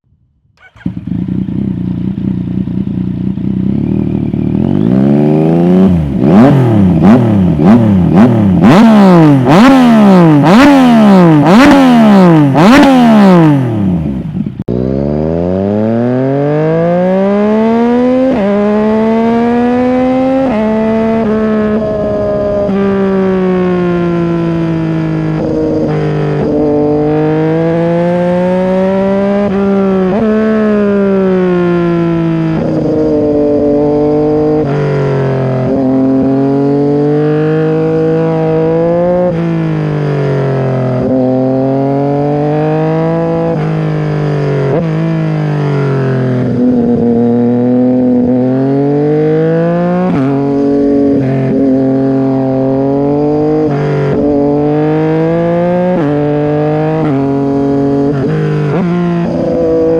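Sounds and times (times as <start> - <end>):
motorcycle engine revving: 0.2 - 59.9.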